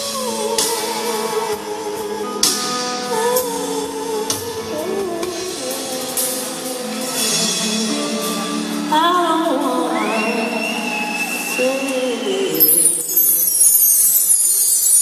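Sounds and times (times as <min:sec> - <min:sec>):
rock band playing a slow ballad: 0:00.0 - 0:13.8.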